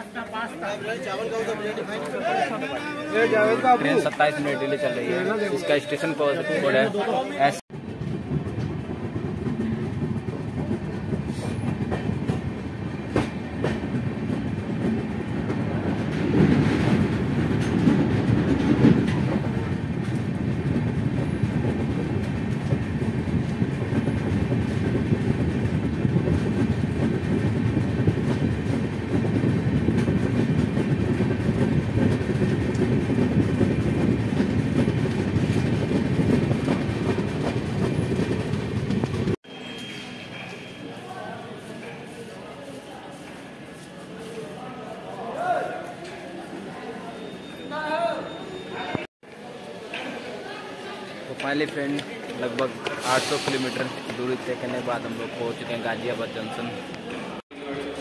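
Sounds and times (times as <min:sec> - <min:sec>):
train coaches rumbling: 0:00.0 - 0:39.4, 0:40.0 - 0:58.0.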